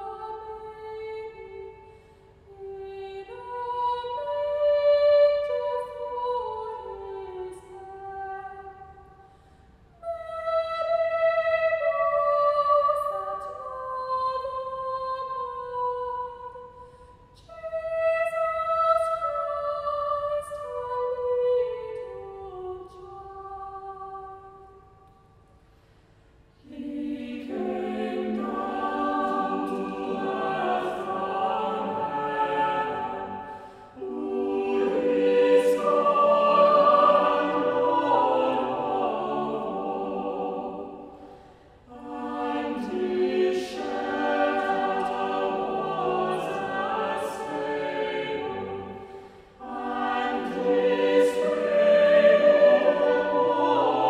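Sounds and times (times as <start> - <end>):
choir singing: 0.0 - 9.2, 10.0 - 16.8, 17.4 - 25.0, 26.6 - 54.0.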